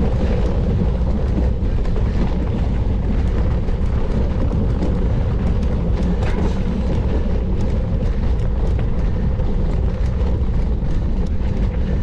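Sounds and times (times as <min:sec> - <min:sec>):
bike tyre and riding noise: 0:00.0 - 0:12.0
light ticks and rattles: 0:00.0 - 0:12.0
wind rumbling on microphone: 0:00.0 - 0:12.0.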